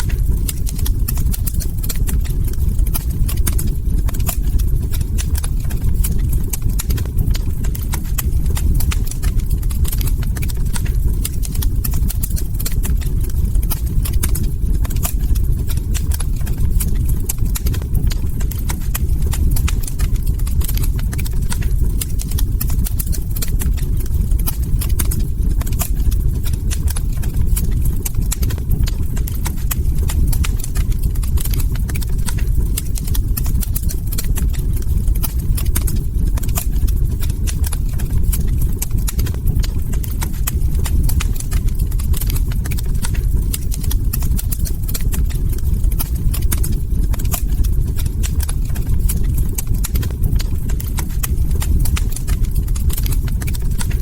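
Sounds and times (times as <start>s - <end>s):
log fire crackling: 0.0s - 54.0s
low fire rumble: 0.0s - 54.0s.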